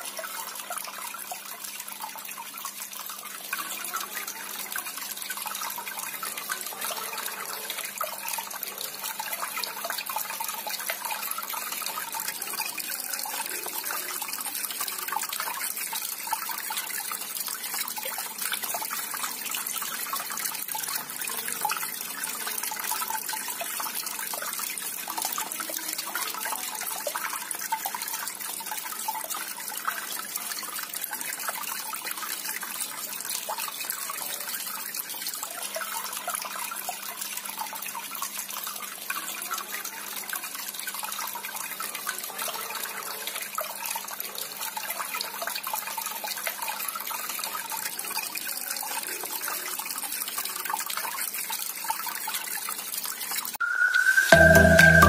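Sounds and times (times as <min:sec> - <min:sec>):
water trickling onto pebbles: 0:00.0 - 0:53.6.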